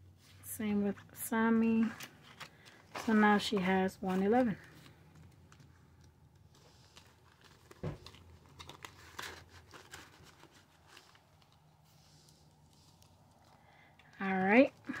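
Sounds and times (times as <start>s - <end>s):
paper rustling and crinkling: 1.5s - 15.0s.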